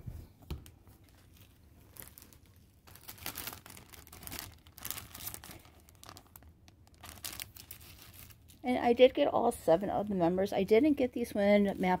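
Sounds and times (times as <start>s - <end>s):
plastic sleeve crinkling: 0.5s - 12.0s.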